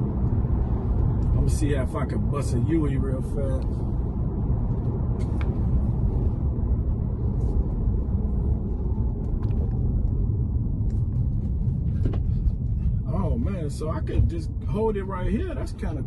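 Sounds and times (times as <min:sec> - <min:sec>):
road and tyre rumble: 0:00.0 - 0:16.0.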